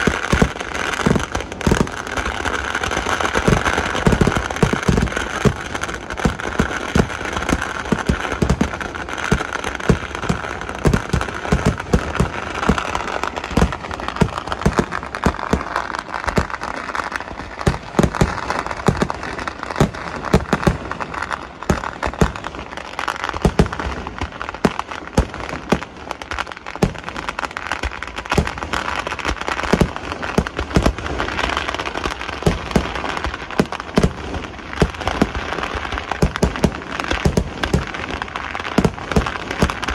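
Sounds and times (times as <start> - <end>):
fireworks bangs: 0.0 - 39.9
fireworks crackle: 0.0 - 39.9.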